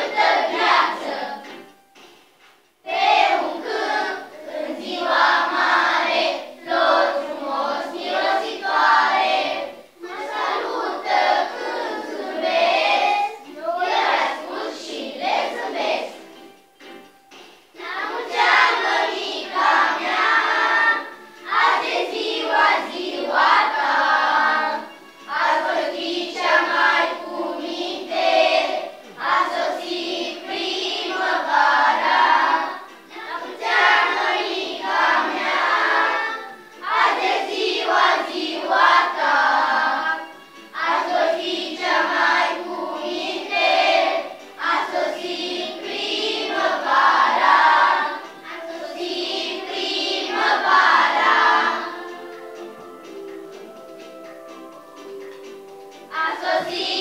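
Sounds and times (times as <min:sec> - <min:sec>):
children singing in unison: 0:00.0 - 0:01.8, 0:02.8 - 0:16.6, 0:17.8 - 0:54.2, 0:55.0 - 0:57.0.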